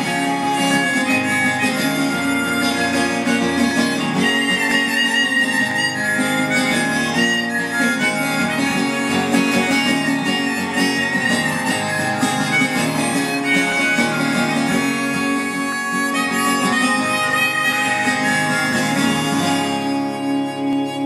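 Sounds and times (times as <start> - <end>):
harmonica melody: 0.0 - 21.0.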